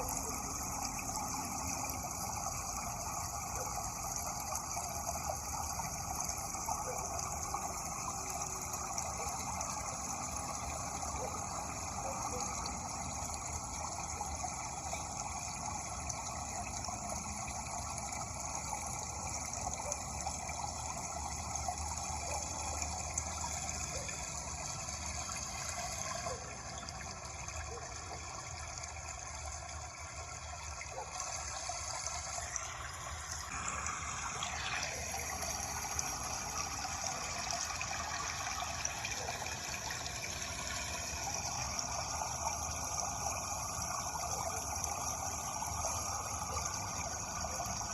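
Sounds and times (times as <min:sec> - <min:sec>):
running water: 0:00.0 - 0:47.9.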